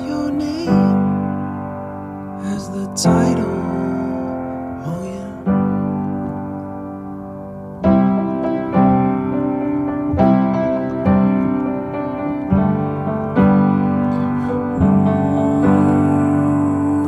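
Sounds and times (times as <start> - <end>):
piano playing chords: 0.0 - 17.0.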